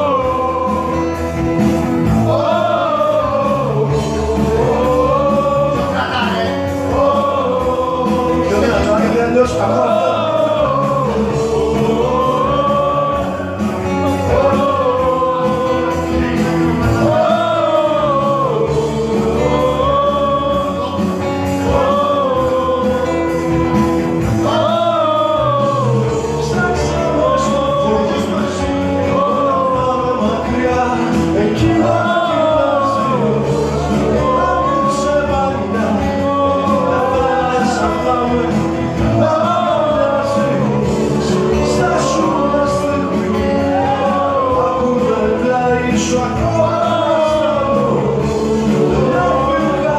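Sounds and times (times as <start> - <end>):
acoustic guitar: 0.0 - 49.9
man singing: 0.0 - 49.9.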